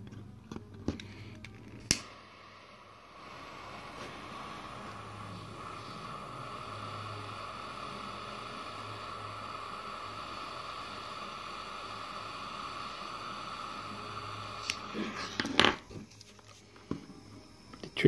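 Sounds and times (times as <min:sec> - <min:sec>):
butane torch hissing: 0:00.9 - 0:18.0.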